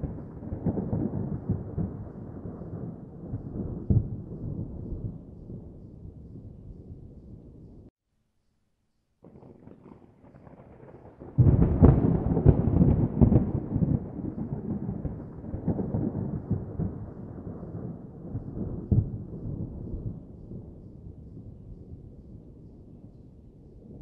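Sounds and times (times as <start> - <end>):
thunder crack and rumble: 0.0 - 7.9, 9.2 - 24.0.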